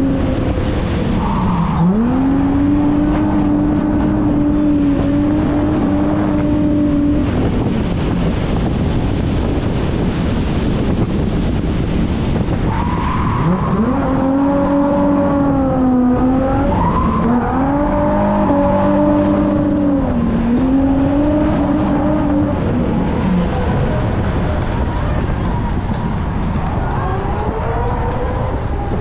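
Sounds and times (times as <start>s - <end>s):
car engine revving hard: 0.0s - 28.9s.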